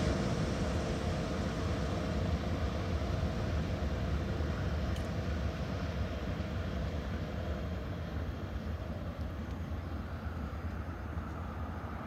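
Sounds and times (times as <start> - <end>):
distant diesel train rumble: 0.0 - 12.0.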